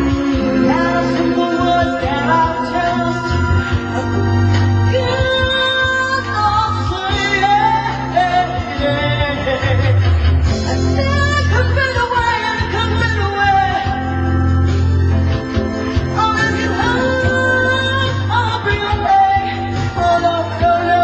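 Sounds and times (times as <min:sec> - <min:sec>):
women singing soul ballad: 0:00.0 - 0:14.5, 0:16.1 - 0:21.0
electric keyboard: 0:00.0 - 0:21.0
low bass notes: 0:00.0 - 0:21.0.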